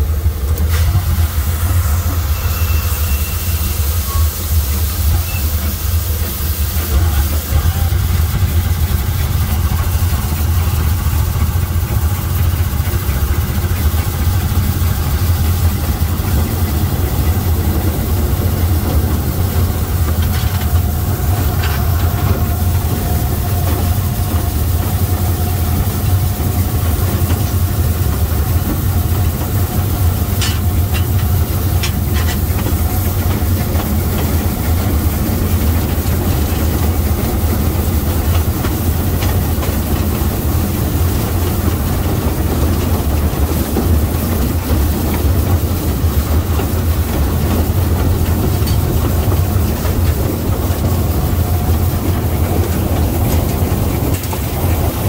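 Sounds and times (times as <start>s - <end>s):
steam locomotive low rumble: 0.0s - 55.0s.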